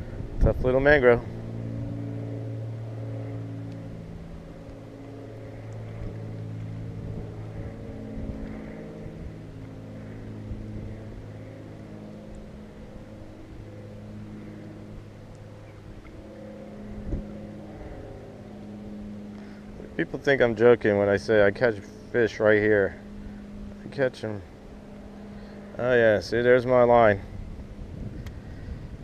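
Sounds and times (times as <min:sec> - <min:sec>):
engine droning: 0:00.0 - 0:29.0.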